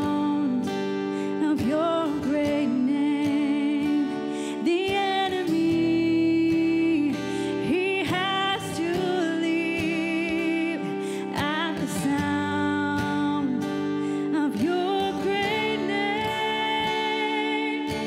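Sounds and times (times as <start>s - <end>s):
woman singing into a microphone: 0.0s - 18.0s.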